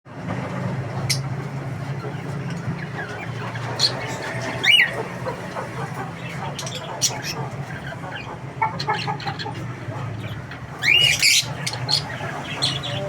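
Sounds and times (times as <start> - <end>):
bird calls and squawks: 0.8 - 13.0.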